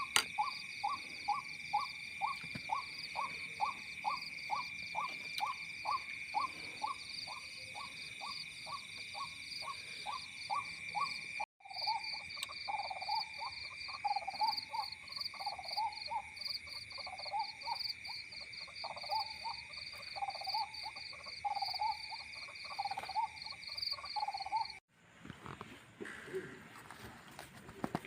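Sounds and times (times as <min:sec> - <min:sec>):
frogs chirping: 0:00.0 - 0:24.8
high insect trill: 0:00.0 - 0:24.8.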